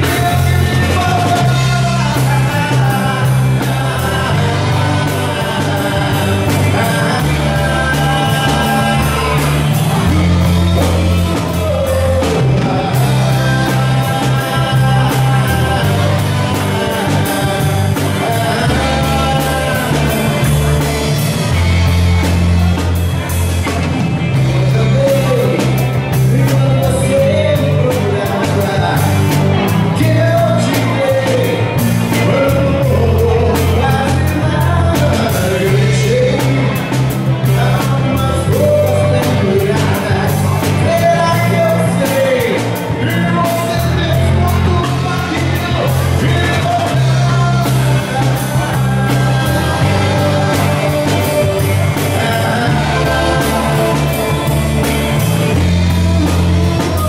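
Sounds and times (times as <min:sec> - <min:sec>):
drum kit beat: 0:00.0 - 0:57.0
electric bass: 0:00.0 - 0:57.0
electric guitar: 0:00.0 - 0:57.0
man singing: 0:00.0 - 0:57.0.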